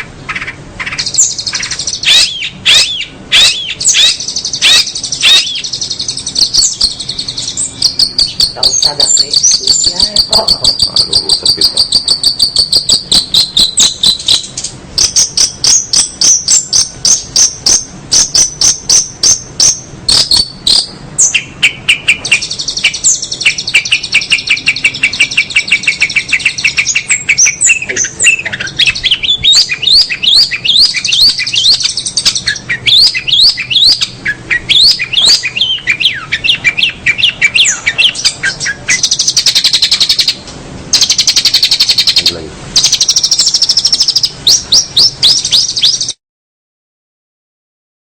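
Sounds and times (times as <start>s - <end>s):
songbird chirping and trilling: 0.0s - 46.2s.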